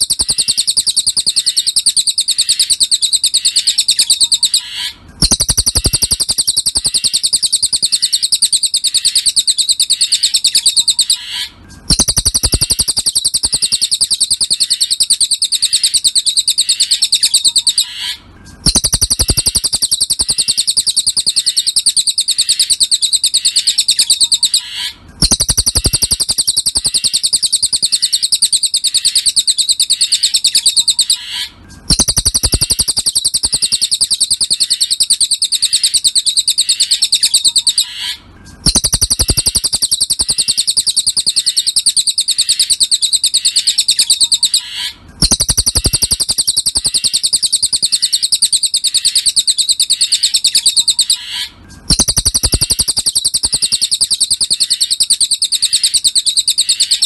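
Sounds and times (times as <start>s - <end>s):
songbird chattering trill: 0.0s - 57.0s.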